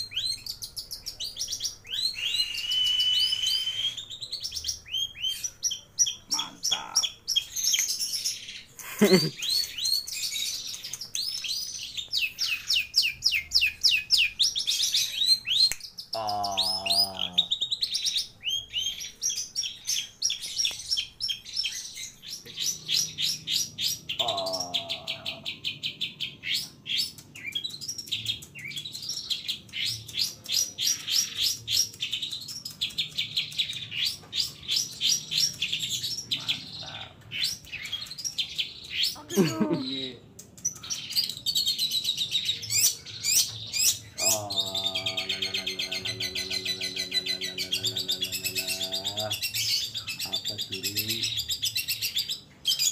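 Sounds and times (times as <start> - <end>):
bird singing high chirps: 0.0 - 52.9.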